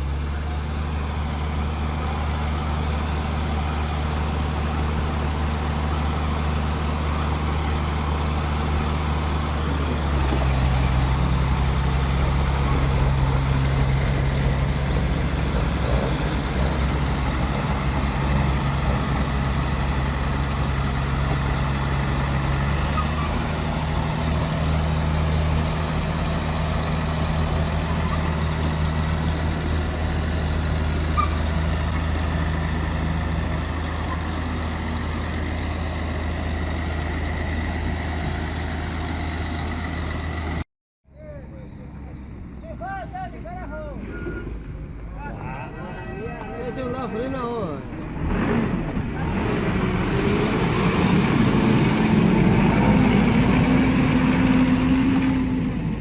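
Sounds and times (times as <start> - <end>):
heavy truck engine droning: 0.0 - 56.0.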